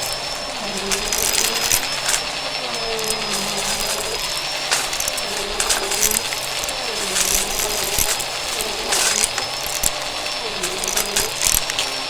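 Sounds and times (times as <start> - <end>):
rattling clicks: 0.0 - 12.0
vacuum cleaner whining: 0.0 - 12.0.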